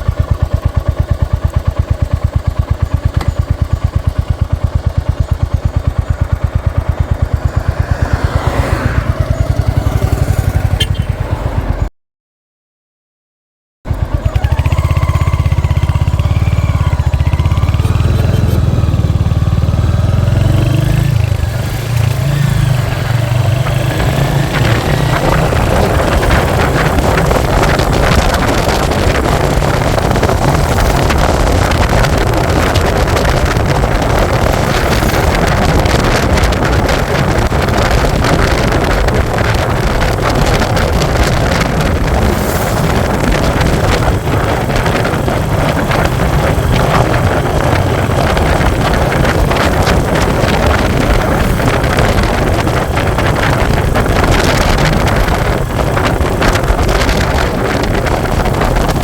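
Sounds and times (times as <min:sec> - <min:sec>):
motorcycle engine running: 0:00.0 - 0:11.9, 0:13.9 - 0:59.0
wind buffeting microphone: 0:02.4 - 0:11.9, 0:13.9 - 0:59.0.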